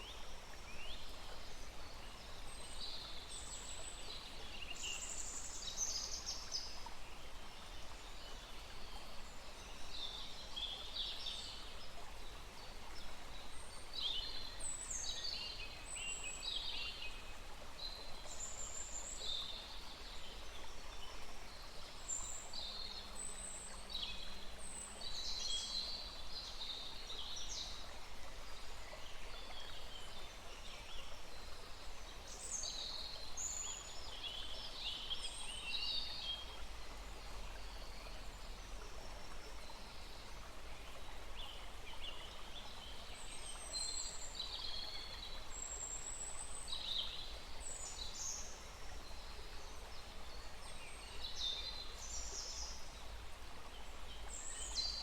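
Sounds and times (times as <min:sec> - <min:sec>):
small stream rushing: 0:00.0 - 0:55.0.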